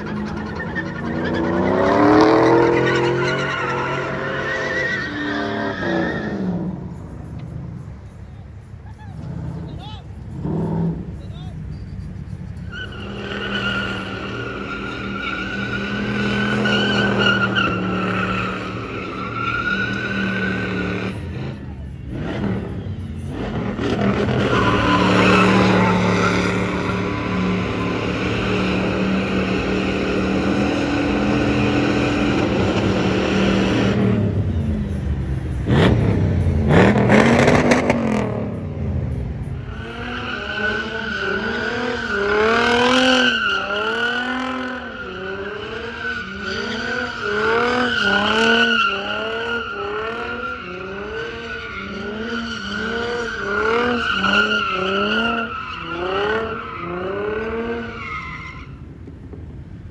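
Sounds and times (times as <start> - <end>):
tyre squeal: 0.0 - 7.1, 10.7 - 36.1, 39.5 - 58.9
car engine revving: 0.0 - 7.9, 8.9 - 58.7.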